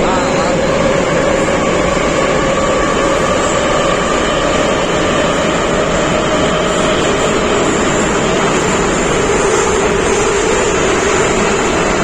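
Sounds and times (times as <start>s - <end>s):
wheels rumbling on rail: 0.0s - 12.0s.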